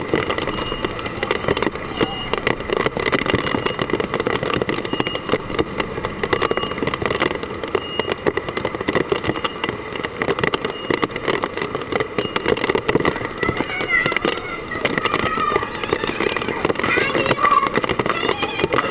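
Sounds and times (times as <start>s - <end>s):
hard rain pelting down: 0.0s - 18.9s.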